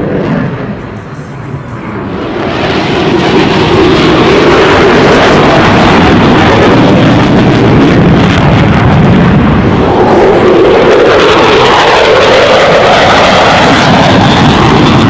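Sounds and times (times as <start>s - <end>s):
fighter jet passing: 0.0s - 15.0s.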